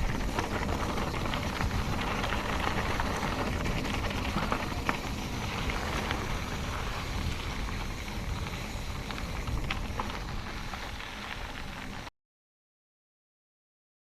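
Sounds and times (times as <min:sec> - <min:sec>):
wind noise on microphone: 0:00.0 - 0:12.1.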